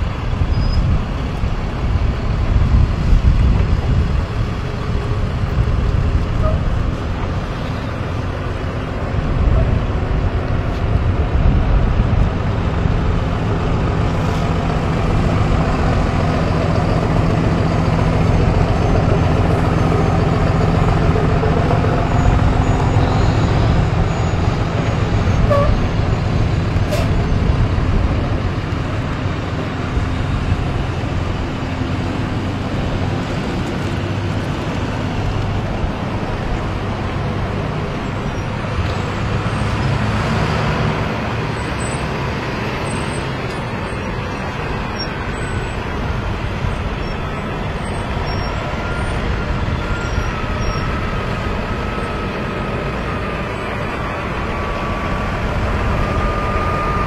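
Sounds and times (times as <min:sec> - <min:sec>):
truck engines droning: 0:00.0 - 0:57.0.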